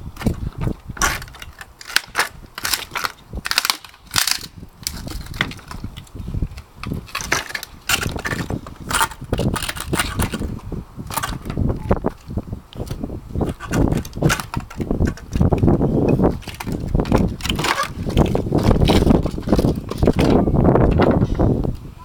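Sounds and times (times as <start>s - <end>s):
wood boards cracking apart: 0.2s - 6.1s, 6.8s - 21.2s.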